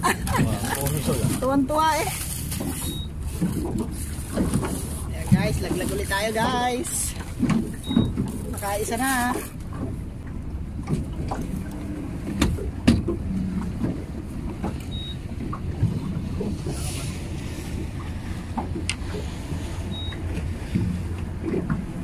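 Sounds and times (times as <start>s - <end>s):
boat low rumble: 0.0s - 22.0s.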